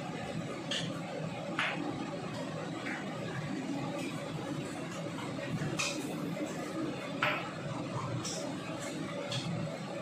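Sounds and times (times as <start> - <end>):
kitchen background noise: 0.0 - 10.0.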